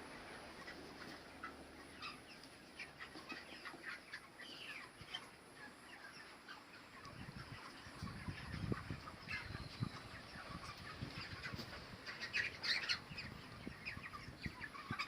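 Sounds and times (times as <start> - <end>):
chickens chirping and clucking: 0.0 - 15.0.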